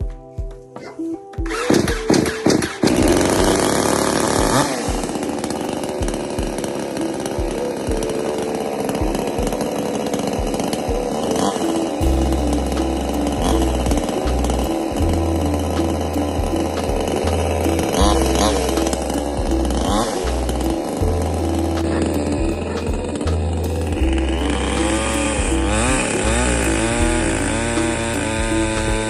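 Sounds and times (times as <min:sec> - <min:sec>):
background music with beat: 0:00.0 - 0:29.0
chainsaw starting and running: 0:01.4 - 0:29.0.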